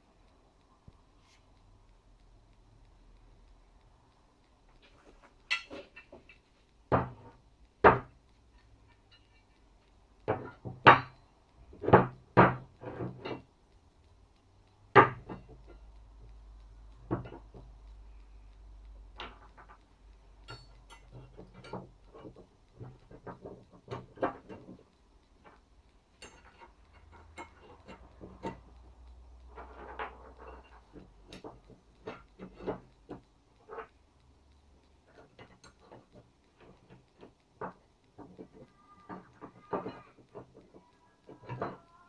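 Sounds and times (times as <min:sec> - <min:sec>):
metal pieces clicking and tapping: 0:02.6 - 0:42.0.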